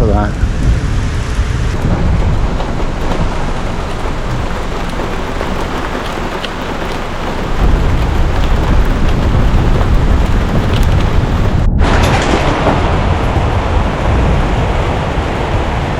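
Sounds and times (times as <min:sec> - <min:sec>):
heavy rain hissing: 0:00.0 - 0:15.9
low rumble: 0:00.0 - 0:15.9.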